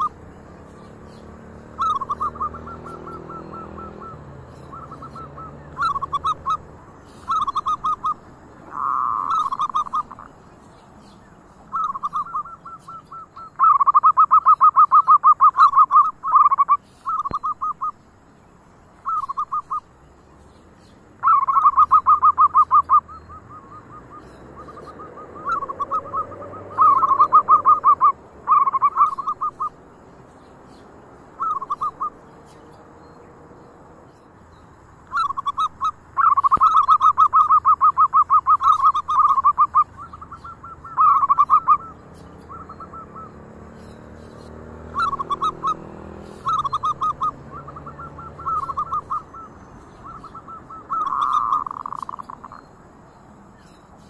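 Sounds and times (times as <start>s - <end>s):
doves cooing: 0.0s - 18.0s, 21.2s - 30.0s, 30.8s - 33.5s, 35.1s - 52.7s.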